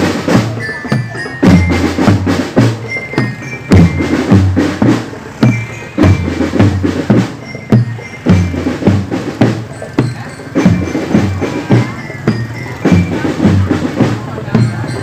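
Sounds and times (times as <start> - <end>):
bass drum beats: 0.0 - 15.0
marching drum band: 0.0 - 15.0.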